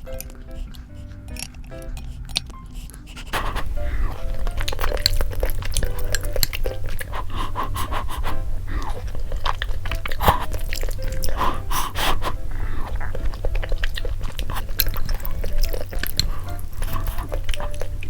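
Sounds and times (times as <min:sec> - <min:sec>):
close chewing of noodles: 0:00.0 - 0:18.0.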